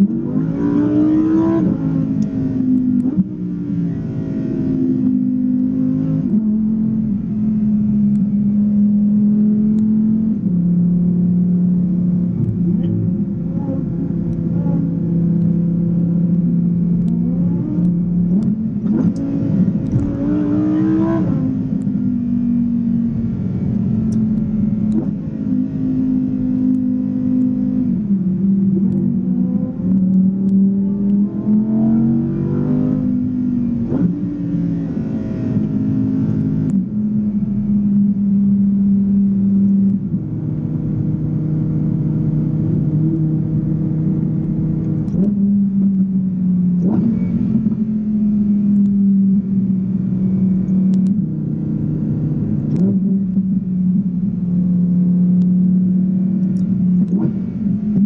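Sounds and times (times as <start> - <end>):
car engine revving with gear changes: 0.0 - 58.0.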